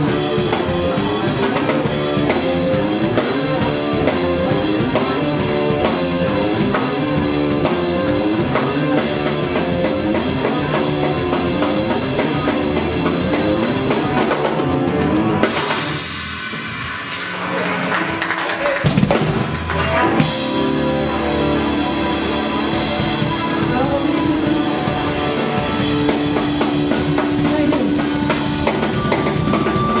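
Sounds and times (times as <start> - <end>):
drum kit beat: 0.0 - 16.9, 17.9 - 30.0
bass guitar: 0.0 - 30.0
electric guitars: 0.0 - 30.0.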